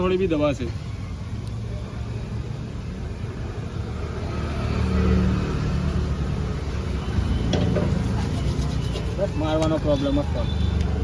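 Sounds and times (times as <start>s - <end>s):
vehicle engine rumbling: 0.9s - 11.0s.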